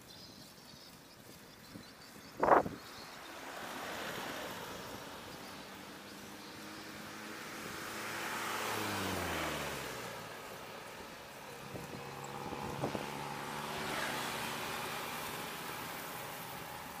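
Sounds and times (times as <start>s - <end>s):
wind and road noise: 0.0s - 17.0s
passing vehicle engine: 2.4s - 17.0s.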